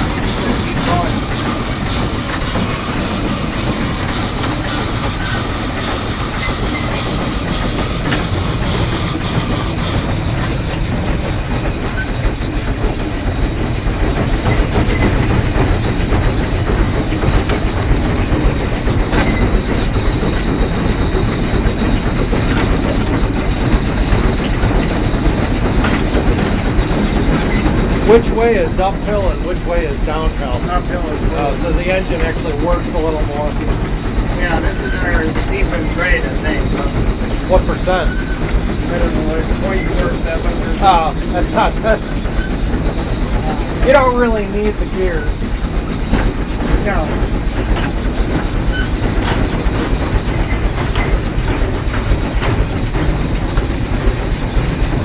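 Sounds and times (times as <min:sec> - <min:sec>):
steam locomotive engine working: 0:00.0 - 0:55.0
wheels clacking over rail joints: 0:00.0 - 0:55.0.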